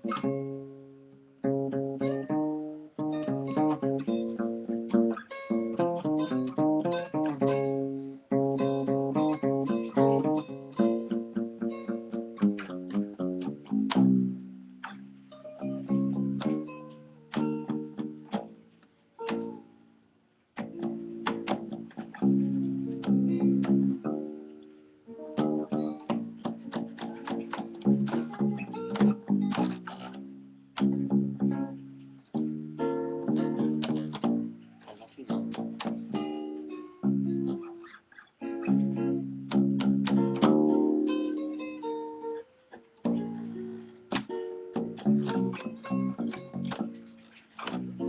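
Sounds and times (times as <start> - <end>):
acoustic bass line: 0.0 - 18.7, 20.6 - 24.5, 25.3 - 37.6, 38.6 - 41.1, 43.1 - 48.0
acoustic guitar chords: 0.0 - 20.0, 20.6 - 48.0.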